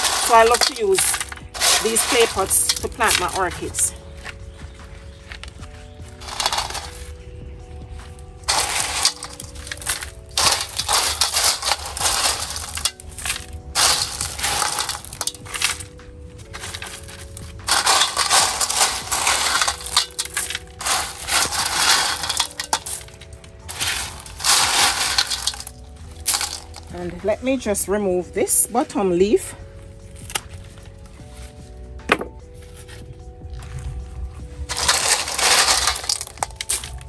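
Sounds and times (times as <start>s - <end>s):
gravel crunching and rattling: 0.0s - 28.0s, 28.8s - 37.0s.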